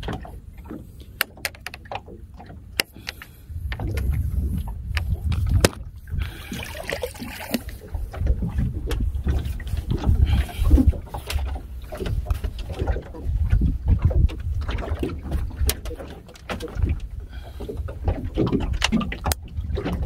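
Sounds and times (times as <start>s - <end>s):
water lapping at boat: 0.0s - 20.0s
wind buffeting microphone: 0.0s - 20.0s.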